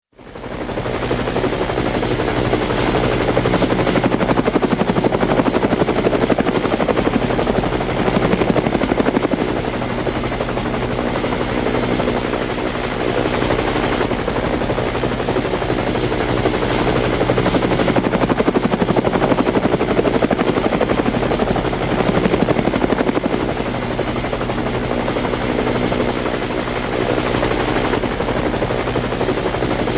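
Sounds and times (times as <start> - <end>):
helicopter high whine: 0.2 - 29.9
helicopter rotor blades chopping: 0.2 - 29.9.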